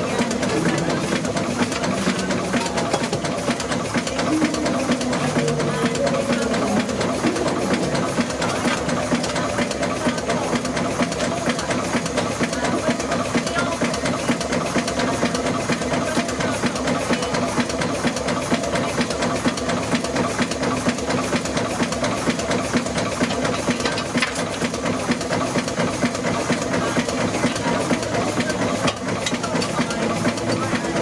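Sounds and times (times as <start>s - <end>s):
steam engine running: 0.0s - 31.0s.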